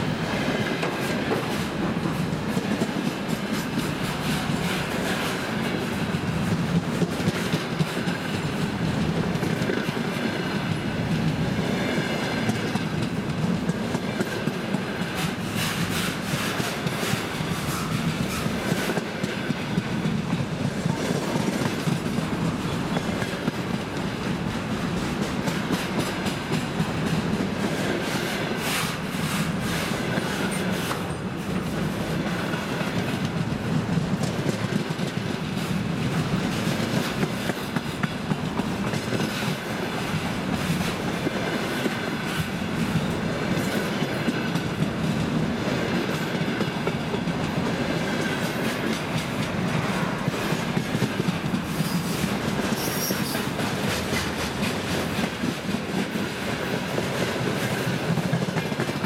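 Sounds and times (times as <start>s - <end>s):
wheels clacking over rail joints: 0.5s - 59.0s.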